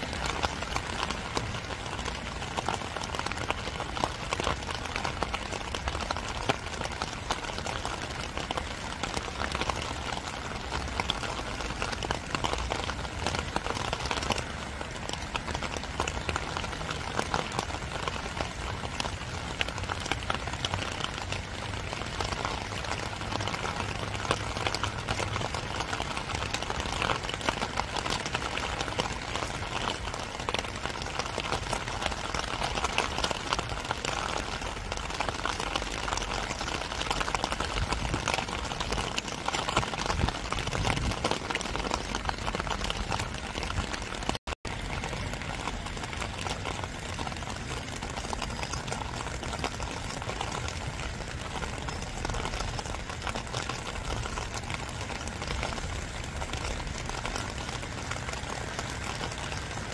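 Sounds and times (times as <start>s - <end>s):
rain falling: 0.0s - 59.9s
raindrops ticking close by: 0.0s - 59.9s.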